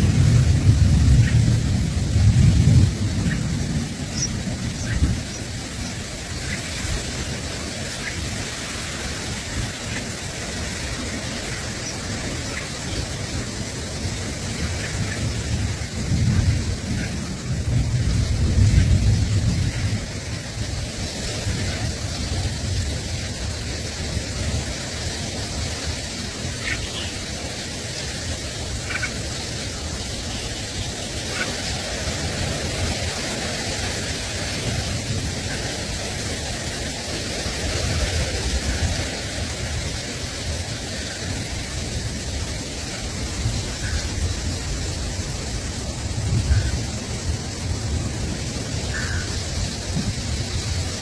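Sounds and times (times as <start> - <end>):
wind rumbling on microphone: 0.0 - 51.0.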